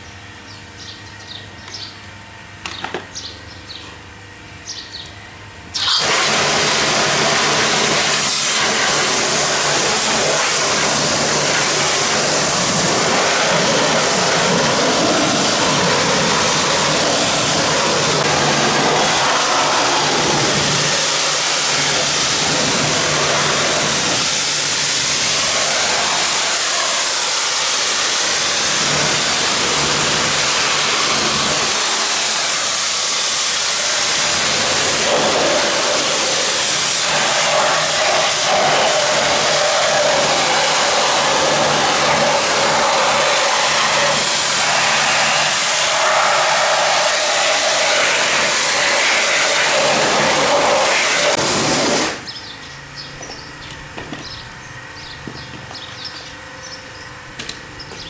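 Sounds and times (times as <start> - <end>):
pressure washer water jet hissing: 5.7 - 52.4
motor humming: 5.8 - 32.7, 34.0 - 58.0.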